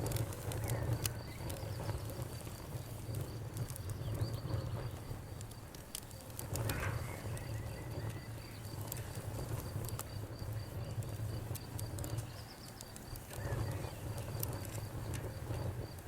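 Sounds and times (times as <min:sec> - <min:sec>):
fire hiss: 0:00.0 - 0:16.0
low rumble of flames: 0:00.0 - 0:16.0
wood fire crackling and popping: 0:00.0 - 0:16.0.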